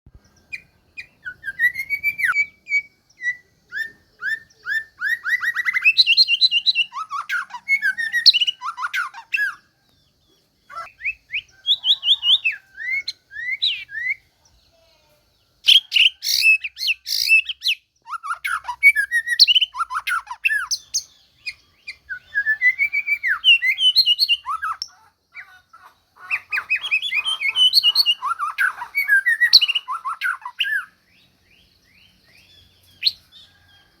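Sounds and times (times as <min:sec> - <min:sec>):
songbird singing whistled phrases: 0:00.1 - 0:10.0, 0:10.6 - 0:14.4, 0:15.3 - 0:25.6, 0:26.2 - 0:33.8.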